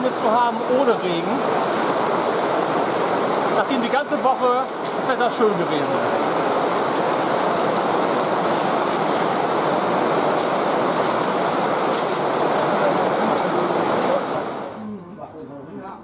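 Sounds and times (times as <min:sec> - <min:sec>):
heavy rain on parasols and paving: 0:00.0 - 0:15.9.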